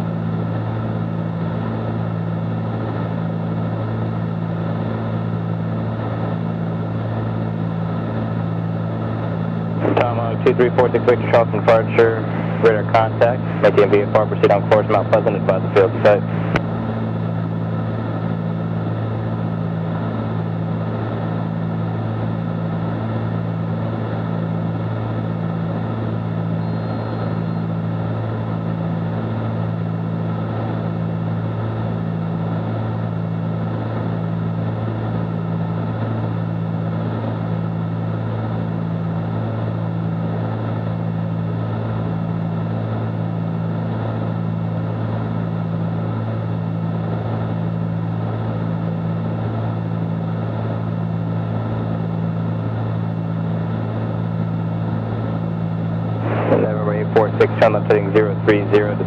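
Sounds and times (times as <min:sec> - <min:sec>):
twin propeller engines droning: 0:00.0 - 0:59.0.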